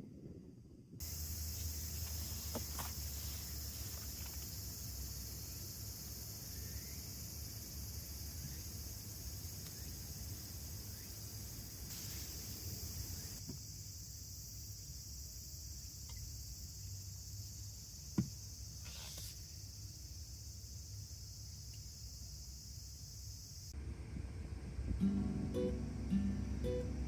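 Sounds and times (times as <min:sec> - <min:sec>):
insects chirring: 0:01.0 - 0:27.0.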